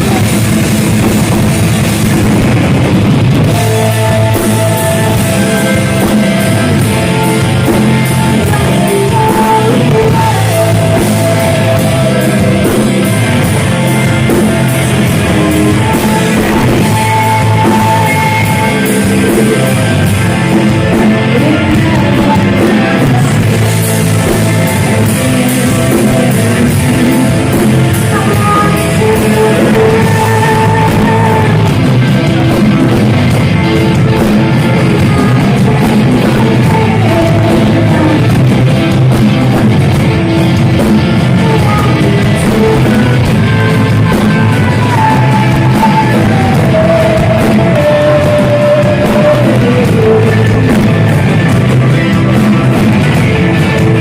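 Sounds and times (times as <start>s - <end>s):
distorted heavy metal band: 0.0s - 54.0s
drums: 0.0s - 54.0s
person singing: 0.0s - 54.0s.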